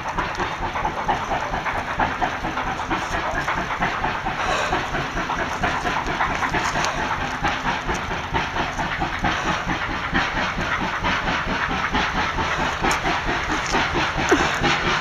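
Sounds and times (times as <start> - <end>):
steam hiss: 0.0 - 15.0
steam train clatter: 0.0 - 15.0.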